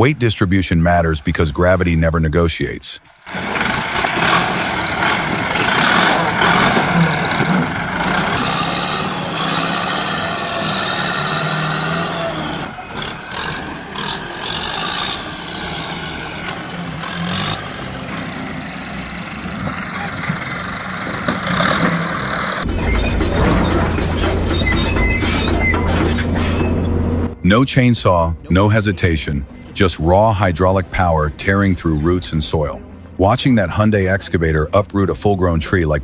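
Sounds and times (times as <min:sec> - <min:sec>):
heavy machinery engine running: 0:03.1 - 0:33.2.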